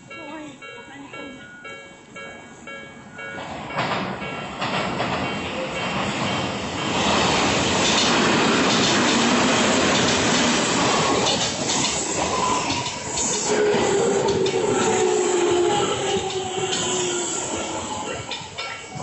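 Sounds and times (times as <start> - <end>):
train wheels rushing on rail: 3.4 - 19.0.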